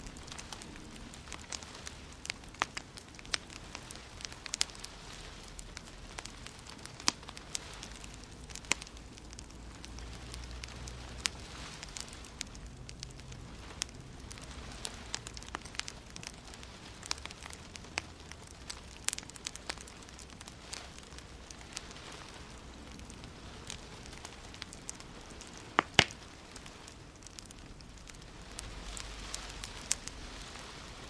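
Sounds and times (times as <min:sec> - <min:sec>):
fire hiss: 0:00.0 - 0:31.0
wood fire crackling: 0:00.0 - 0:31.0.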